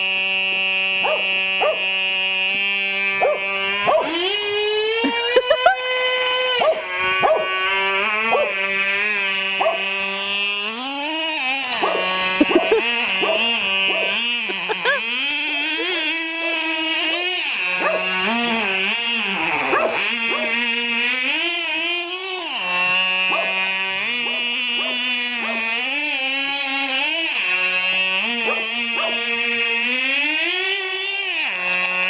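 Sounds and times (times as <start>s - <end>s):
model car motor revving: 0.0s - 32.0s.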